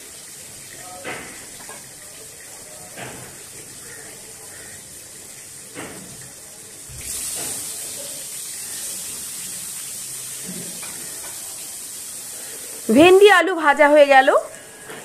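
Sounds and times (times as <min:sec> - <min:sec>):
oil sizzling: 0:00.0 - 0:14.9.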